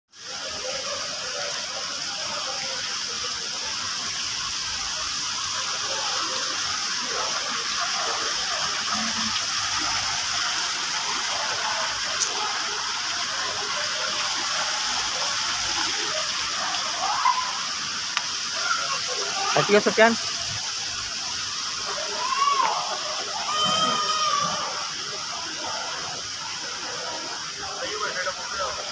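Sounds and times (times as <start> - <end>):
fountain water splashing: 0.1 - 28.9.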